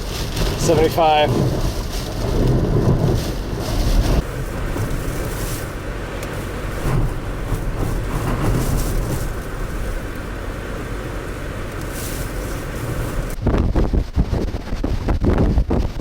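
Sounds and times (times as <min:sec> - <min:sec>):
blizzard wind on microphone: 0:00.0 - 0:16.0.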